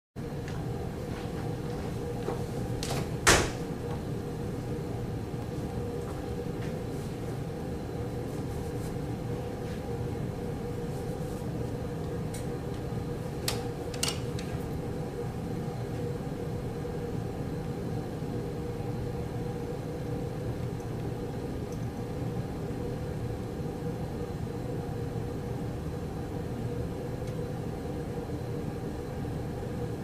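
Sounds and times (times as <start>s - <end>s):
low background hum: 0.2s - 30.0s.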